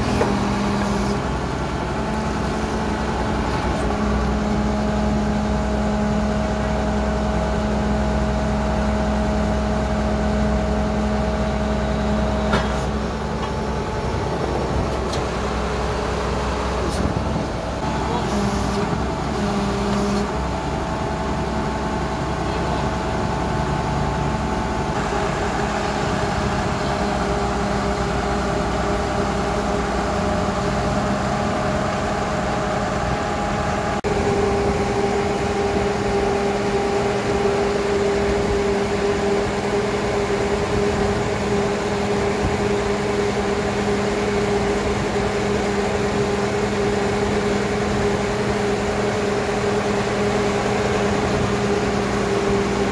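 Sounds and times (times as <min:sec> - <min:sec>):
drilling rig engine humming: 0:00.0 - 0:52.9.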